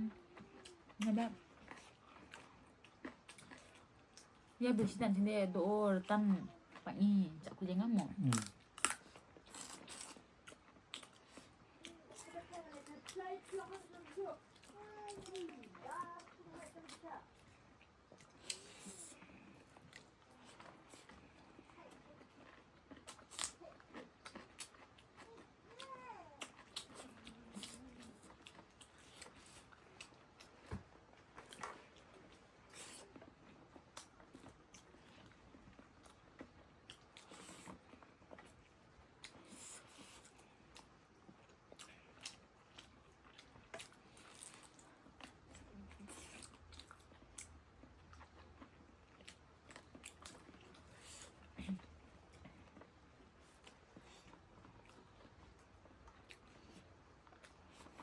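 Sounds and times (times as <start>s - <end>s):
person chewing food: 0.0s - 4.6s, 8.0s - 58.0s.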